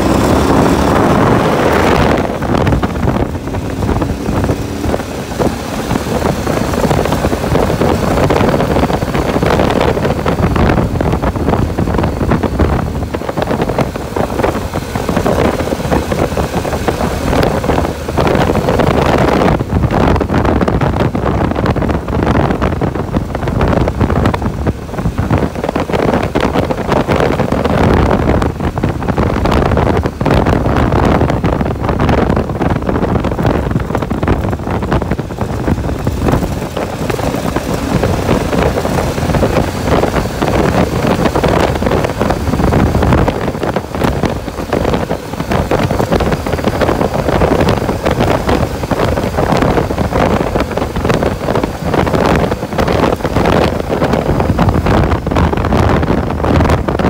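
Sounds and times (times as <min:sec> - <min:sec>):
motorcycle engine: 0:00.0 - 0:57.0
wind on microphone: 0:00.0 - 0:57.0.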